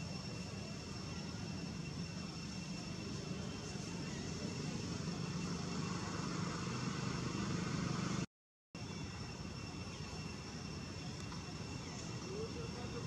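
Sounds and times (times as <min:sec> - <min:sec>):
outdoor low rumble with hiss: 0:00.0 - 0:13.0.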